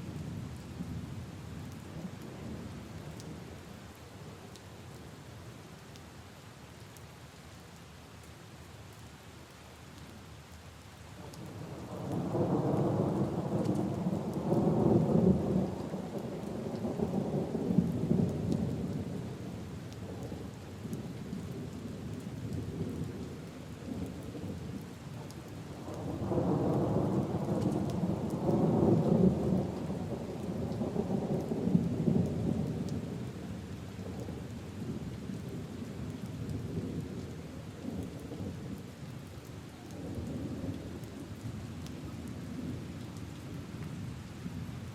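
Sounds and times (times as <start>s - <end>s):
rain on leaves and puddles: 0.0s - 44.9s.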